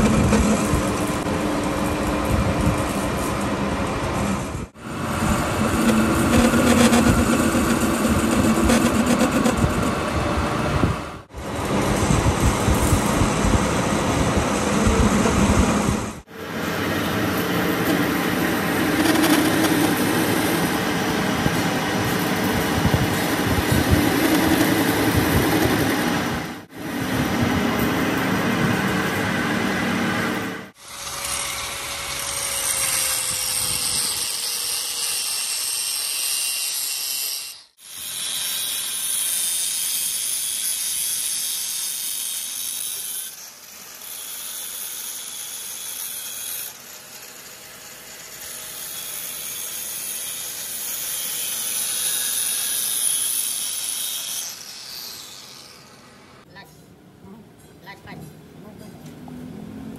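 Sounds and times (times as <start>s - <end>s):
angle grinder grinding metal: 0.0s - 10.2s, 11.3s - 56.5s
metal lathe turning: 0.0s - 10.4s, 11.2s - 56.5s.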